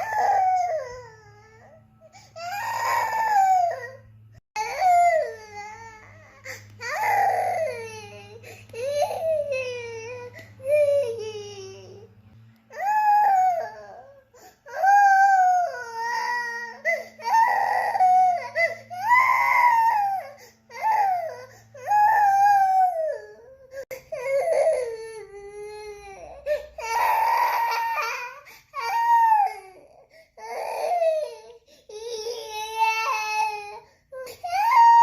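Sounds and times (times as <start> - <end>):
toddler crying: 0.0 - 1.8, 2.4 - 4.0, 4.6 - 12.1, 12.7 - 35.0.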